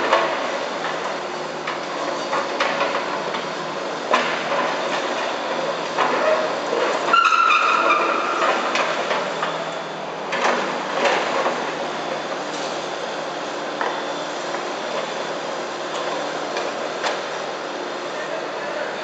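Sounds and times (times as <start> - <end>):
mini excavator running: 0.0 - 19.0.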